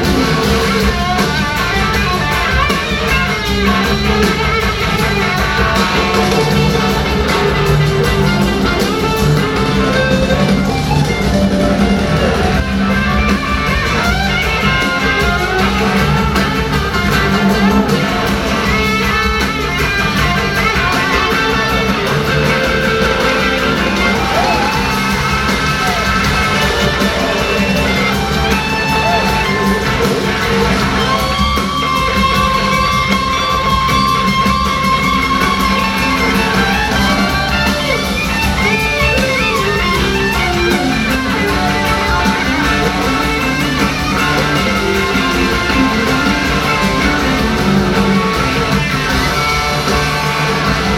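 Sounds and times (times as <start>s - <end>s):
electric guitar lead lines: 0.0s - 50.9s
live rock band: 0.0s - 50.9s.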